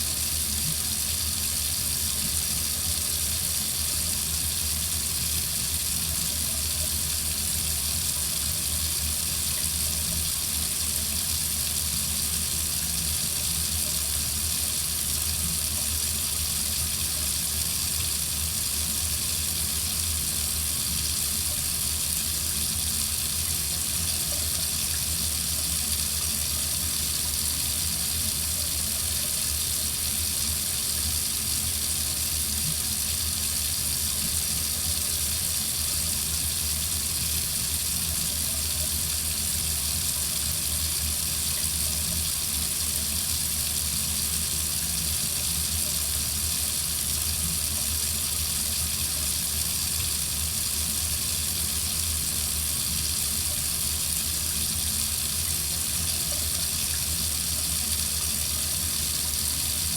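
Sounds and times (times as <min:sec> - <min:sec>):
faucet running into sink: 0:00.0 - 0:59.9.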